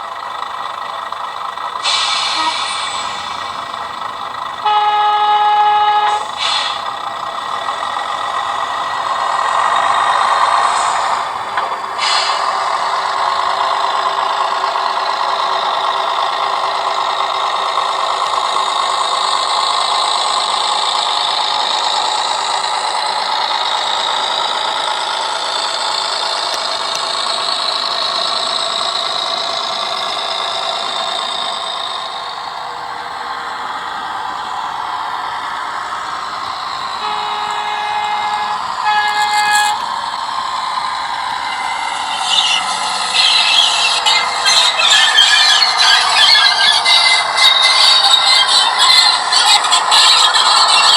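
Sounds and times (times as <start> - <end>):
model train diesel engine sound: 0.0 - 50.9.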